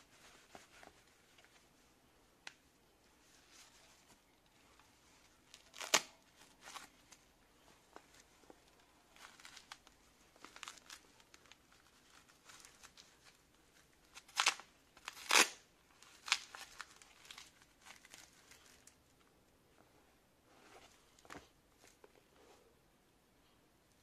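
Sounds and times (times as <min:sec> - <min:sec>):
gloves rustling and rubbing: 0:00.0 - 0:22.8.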